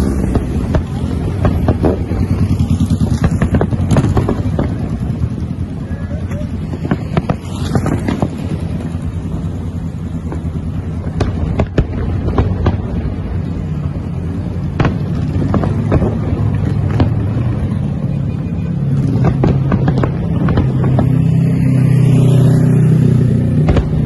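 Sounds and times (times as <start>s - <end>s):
car engines humming: 0.0s - 24.0s
fireworks bangs: 0.0s - 24.0s
street traffic: 0.0s - 24.0s.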